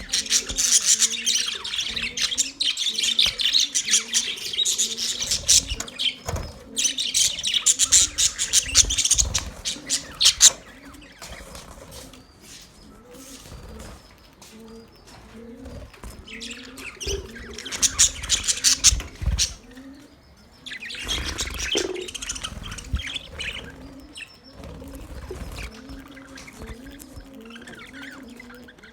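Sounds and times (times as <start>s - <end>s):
budgerigars chirping and warbling: 0.0s - 28.9s.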